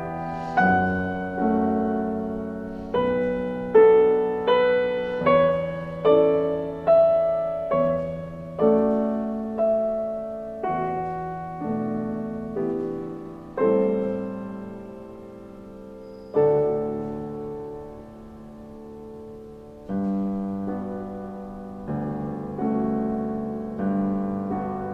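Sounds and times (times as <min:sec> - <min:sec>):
slow solo piano: 0:00.0 - 0:24.9.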